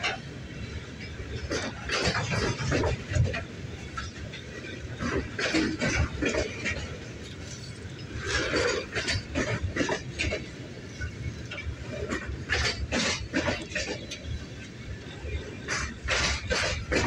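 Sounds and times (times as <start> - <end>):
train rumble: 0.0 - 17.0
train wheels and couplers clanking: 0.0 - 17.0.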